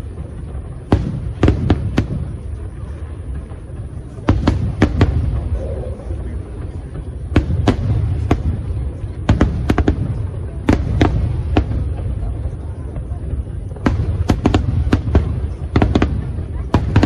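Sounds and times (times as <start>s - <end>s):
fireworks bangs: 0.0s - 17.0s
steady low rumble: 0.0s - 17.0s.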